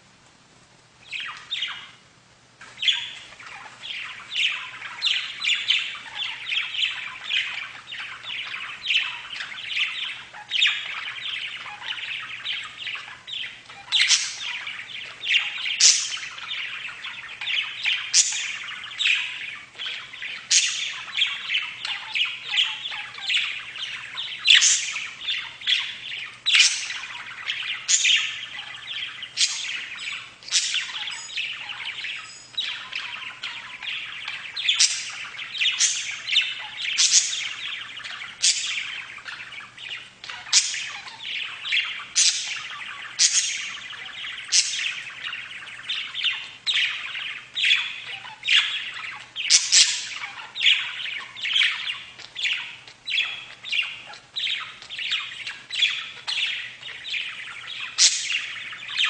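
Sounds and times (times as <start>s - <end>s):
flock of budgerigars chattering: 1.0s - 2.0s, 2.6s - 59.0s
sharp high bird chirps: 2.8s - 59.0s.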